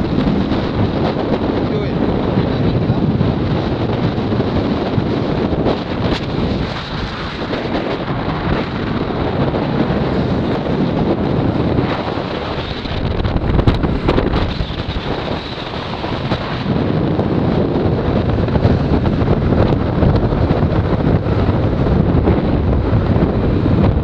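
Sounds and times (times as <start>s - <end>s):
scooter engine and road noise: 0.0s - 24.0s
wind buffeting microphone: 0.0s - 24.0s.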